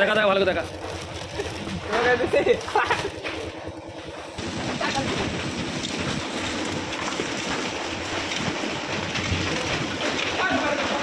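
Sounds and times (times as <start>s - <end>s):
machinery noise: 0.0s - 11.0s.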